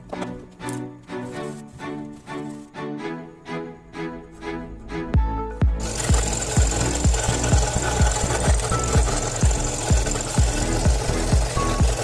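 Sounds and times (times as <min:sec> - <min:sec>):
bowed string melody: 0:00.0 - 0:12.0.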